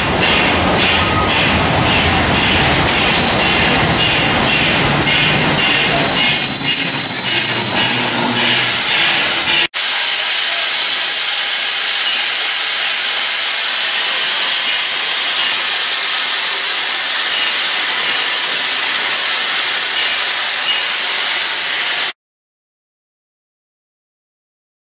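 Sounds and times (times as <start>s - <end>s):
steam locomotive hissing: 0.0s - 22.2s.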